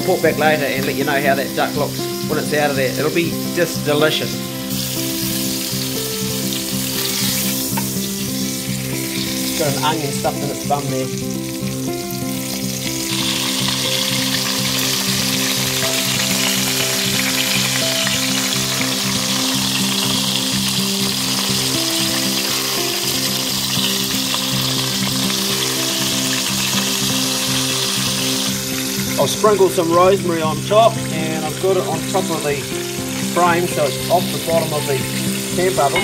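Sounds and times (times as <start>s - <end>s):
background music with held notes: 0.0s - 36.0s
duck sizzling in fat: 0.1s - 36.0s.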